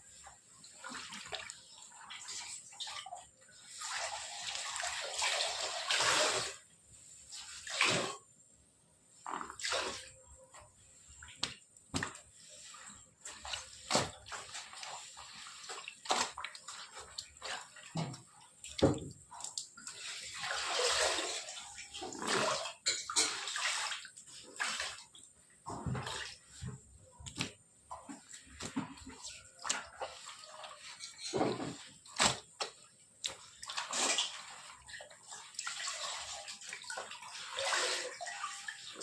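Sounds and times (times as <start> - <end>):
water splashing and pouring: 0.1 - 8.3, 9.2 - 39.0.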